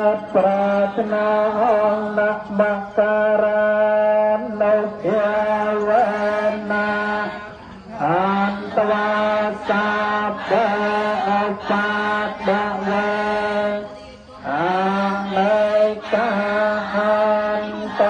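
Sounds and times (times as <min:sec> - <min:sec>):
monotone chanting: 0:00.0 - 0:18.0.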